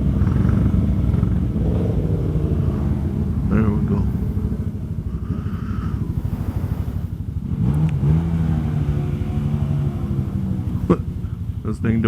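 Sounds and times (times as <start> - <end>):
engine revving: 0.0 - 12.0
motorcycle engines idling: 0.0 - 12.0.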